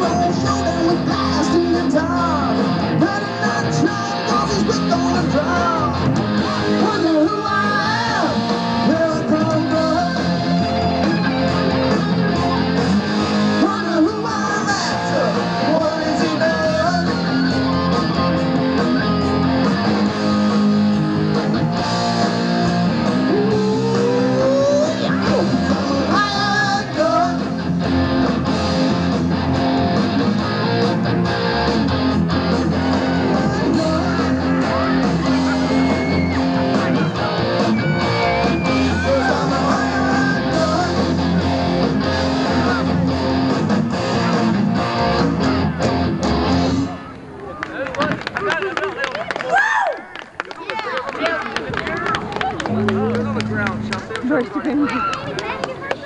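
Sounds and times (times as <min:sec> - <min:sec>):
lead guitar bending notes: 0:00.0 - 0:47.2, 0:52.3 - 0:54.8
rock band playing: 0:00.0 - 0:47.3, 0:52.0 - 0:55.8.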